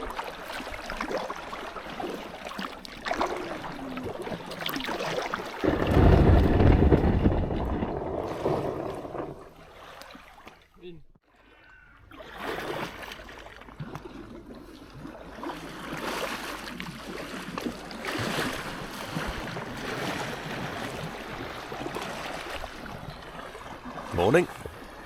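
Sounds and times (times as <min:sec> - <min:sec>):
water splashing around kayak: 0:00.0 - 0:25.0.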